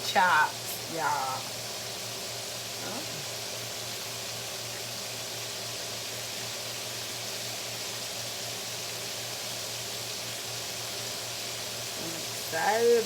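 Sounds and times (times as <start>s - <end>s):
food sizzling in deep oil: 0.0s - 13.0s.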